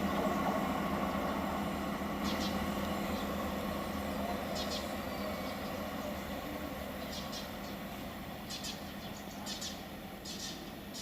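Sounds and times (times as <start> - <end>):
diesel railcar engine humming: 0.0 - 11.0.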